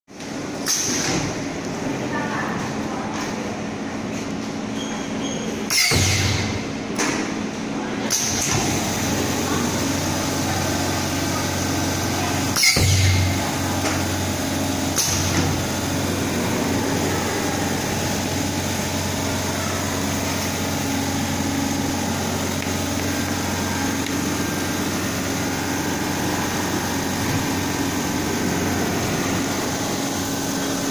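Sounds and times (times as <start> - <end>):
welding machine hum and hiss: 0.1 - 30.9.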